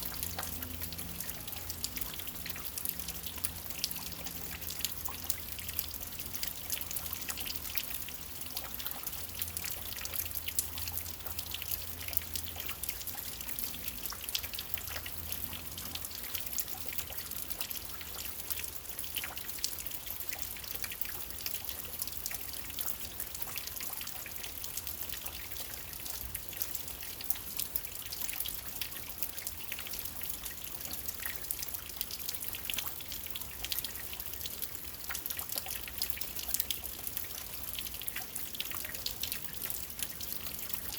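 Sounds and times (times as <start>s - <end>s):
rain pattering: 0.0s - 40.9s
water dripping and trickling: 0.0s - 40.9s.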